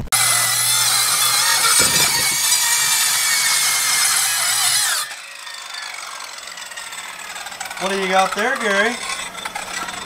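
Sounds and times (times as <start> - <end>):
circular saw cutting plywood: 0.0 - 10.0.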